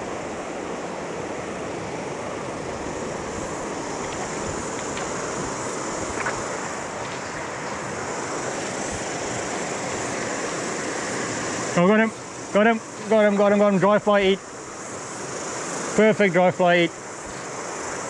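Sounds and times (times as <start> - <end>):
stream water flowing: 0.0 - 18.0.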